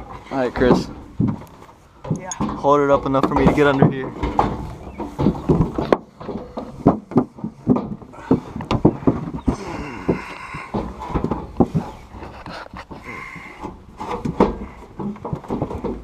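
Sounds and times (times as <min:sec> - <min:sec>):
fuel tank knocks and clunks: 0:00.6 - 0:11.9, 0:13.6 - 0:16.0.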